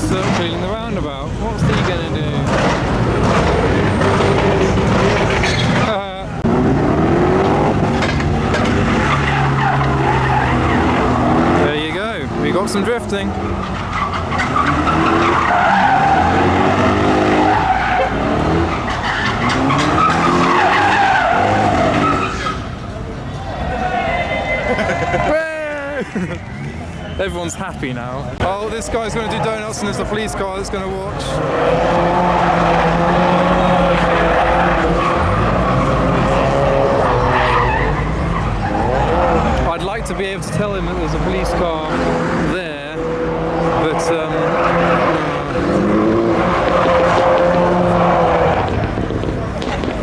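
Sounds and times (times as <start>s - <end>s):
car engine revving: 0.0s - 25.3s, 28.0s - 50.0s
tyres squealing: 0.0s - 50.0s.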